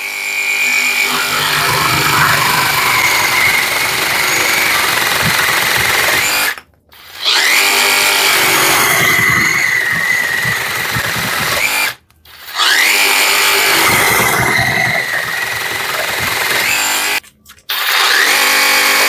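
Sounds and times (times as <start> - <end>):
reciprocating saw cutting: 0.3 - 17.2.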